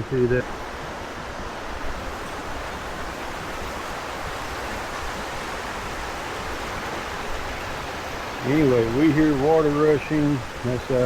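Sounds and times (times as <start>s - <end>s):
river water rushing over a fall: 0.0s - 11.0s.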